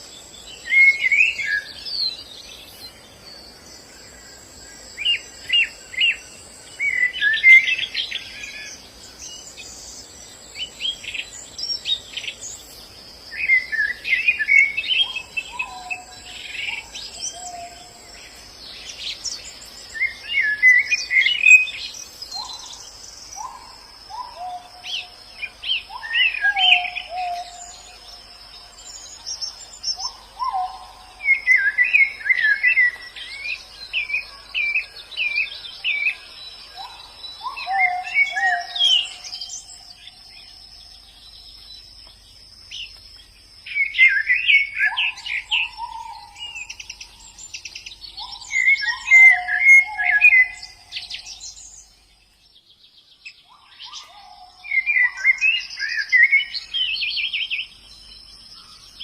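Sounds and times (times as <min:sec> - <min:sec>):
birds twittering: 0:00.0 - 0:59.0.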